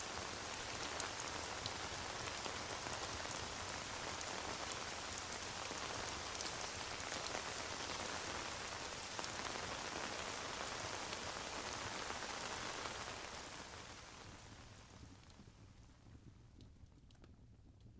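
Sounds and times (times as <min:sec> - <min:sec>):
rain falling on surface: 0:00.0 - 0:17.4.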